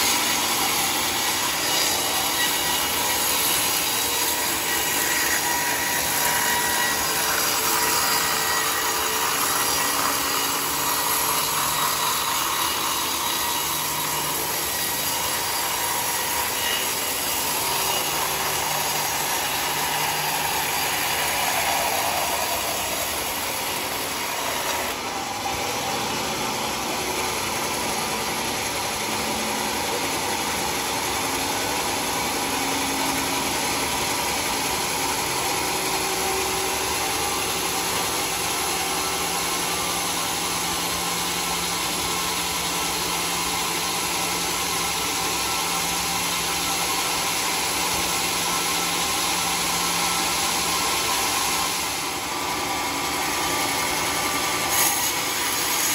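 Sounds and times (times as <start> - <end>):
band saw cutting log: 0.0 - 55.9.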